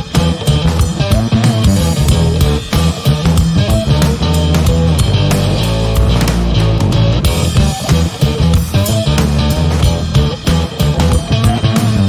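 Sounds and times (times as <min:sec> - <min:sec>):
rock music with electric guitar: 0:00.0 - 0:12.0.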